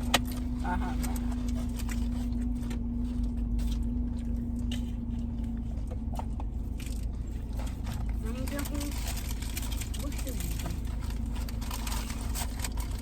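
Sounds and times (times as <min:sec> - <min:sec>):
car air conditioning humming: 0:00.0 - 0:13.0.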